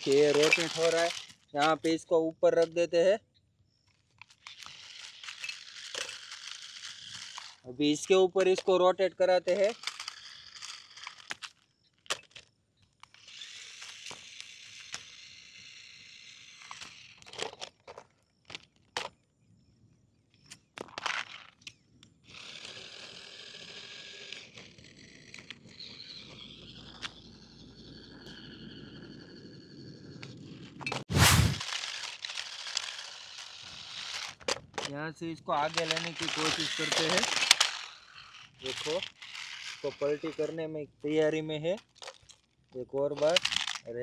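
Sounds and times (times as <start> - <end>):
toy electric motors whirring: 0.0 - 3.0, 3.9 - 19.2, 20.4 - 44.0.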